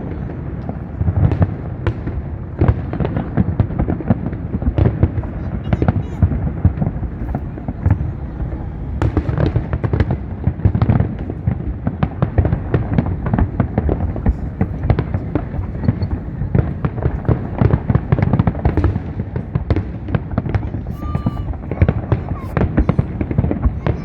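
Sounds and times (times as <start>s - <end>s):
fireworks bangs and crackles: 0.0s - 24.0s
steady low rumble: 0.0s - 24.0s.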